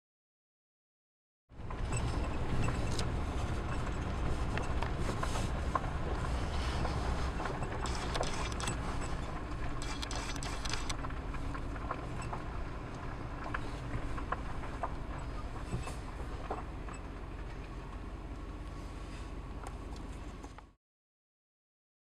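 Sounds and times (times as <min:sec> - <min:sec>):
vehicle rolling on gravel: 0:01.5 - 0:20.8.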